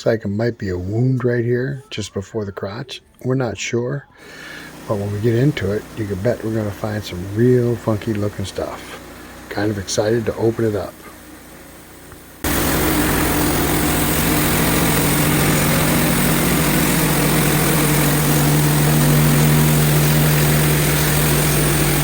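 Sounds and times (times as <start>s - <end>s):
gasoline engine running steadily: 4.4s - 22.0s.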